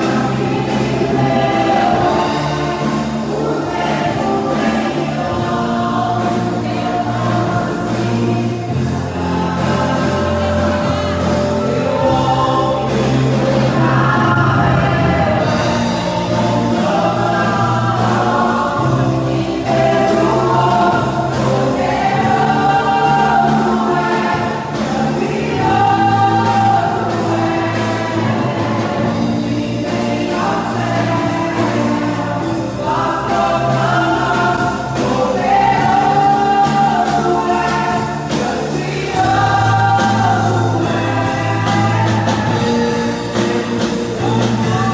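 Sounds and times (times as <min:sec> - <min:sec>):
band with bass and keyboards: 0:00.0 - 0:44.9
choir singing: 0:00.0 - 0:44.9.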